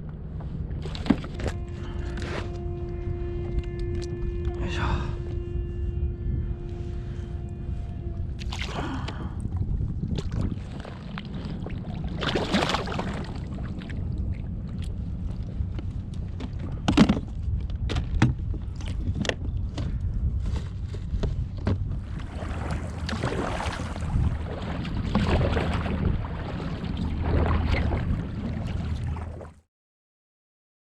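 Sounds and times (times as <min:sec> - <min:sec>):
low wind rumble on microphone: 0:00.0 - 0:29.6
water splashing around a kayak: 0:00.5 - 0:29.6.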